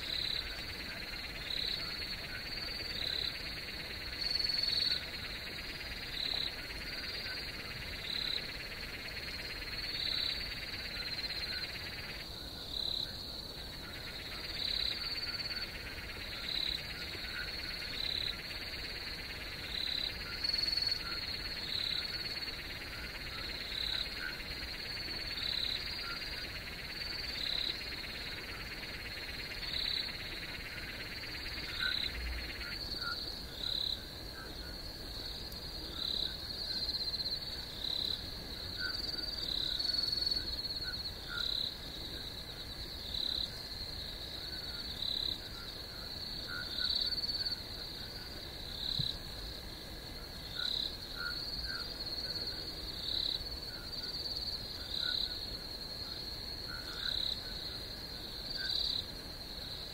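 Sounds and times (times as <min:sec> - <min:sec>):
high insect trill with chirps: 0:00.0 - 0:59.9.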